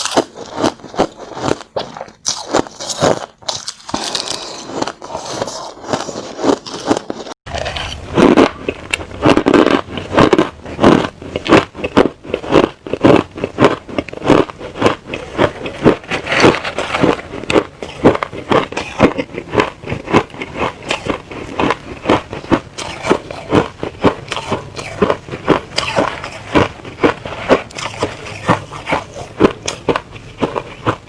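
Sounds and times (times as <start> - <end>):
person chewing hard ice: 0.0 - 31.0.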